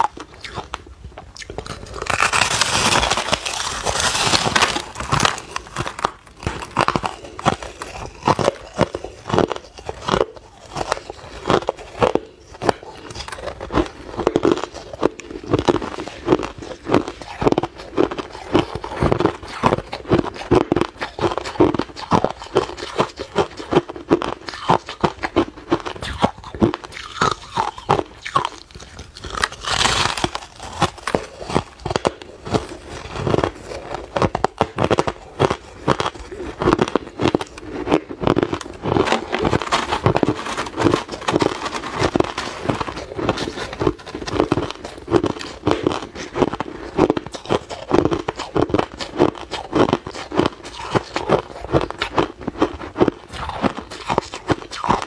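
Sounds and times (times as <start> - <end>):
person chewing ice: 0.0 - 55.0.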